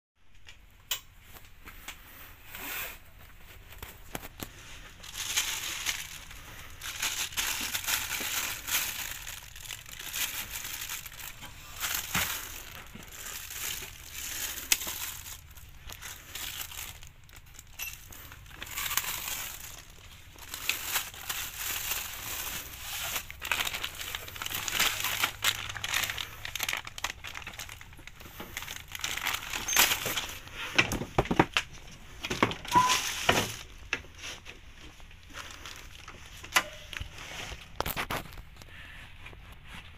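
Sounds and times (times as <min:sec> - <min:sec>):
plastic bags crinkling: 0:03.2 - 0:38.6.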